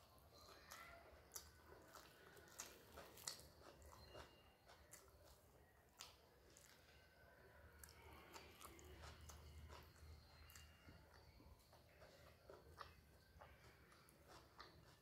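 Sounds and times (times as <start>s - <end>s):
faint chewing: 0.0s - 15.0s
fingers squishing rice on plate: 0.0s - 15.0s.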